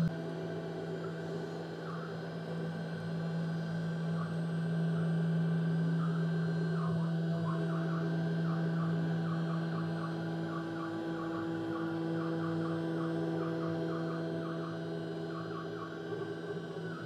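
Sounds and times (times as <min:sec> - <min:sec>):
axis motors whining: 0:00.0 - 0:17.0
router spindle humming: 0:00.0 - 0:17.0.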